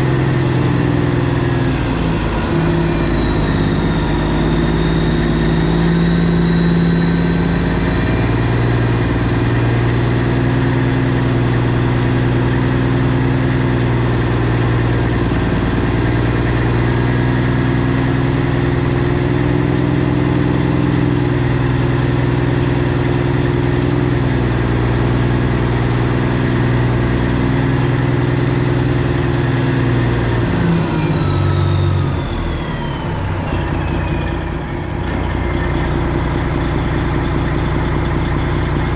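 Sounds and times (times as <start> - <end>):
high whine: 0.0 - 38.9
truck diesel engine running: 0.0 - 38.9.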